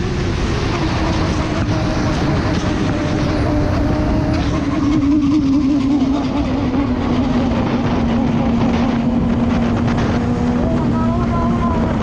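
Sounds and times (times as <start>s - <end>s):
motorcycle engine at high speed: 0.0s - 12.0s
wind rush: 0.0s - 12.0s.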